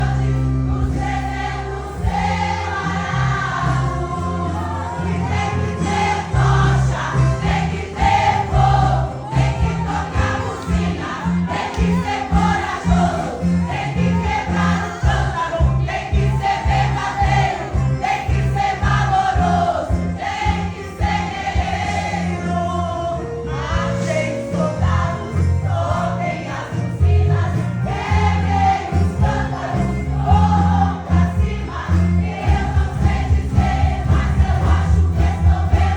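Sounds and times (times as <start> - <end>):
instrumental accompaniment: 0.0 - 35.9
women's choir singing a hymn: 0.0 - 35.9.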